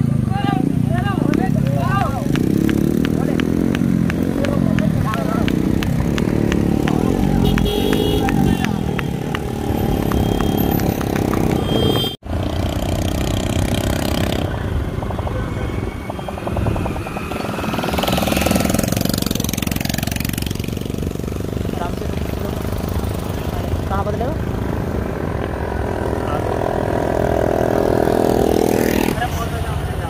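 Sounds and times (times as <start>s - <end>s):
motorcycle approaching: 0.0s - 30.0s
motorcycle engines running: 0.0s - 30.0s.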